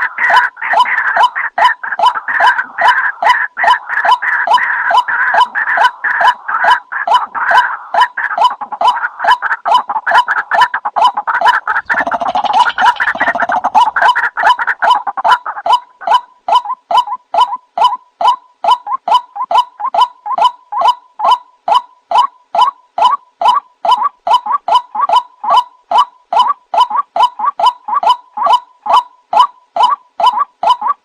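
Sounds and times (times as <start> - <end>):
waterhen calls: 0.0 - 31.0.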